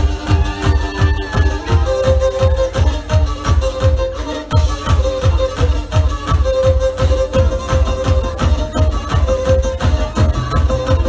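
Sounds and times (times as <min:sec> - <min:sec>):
kick drum beat: 0:00.0 - 0:11.0
live folk dance band: 0:00.0 - 0:11.0.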